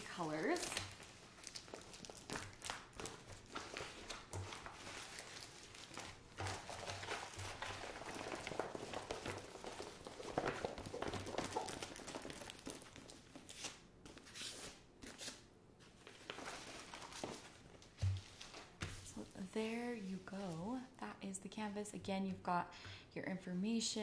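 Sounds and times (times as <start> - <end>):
plastic film and paper crinkling: 0.0 - 20.9.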